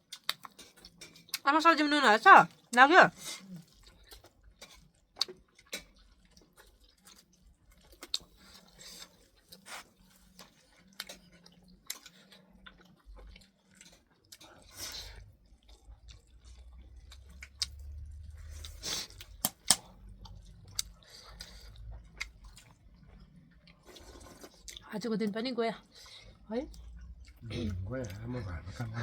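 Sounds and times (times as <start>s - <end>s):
person chewing food: 0.0s - 1.4s, 2.5s - 24.9s, 25.8s - 29.0s.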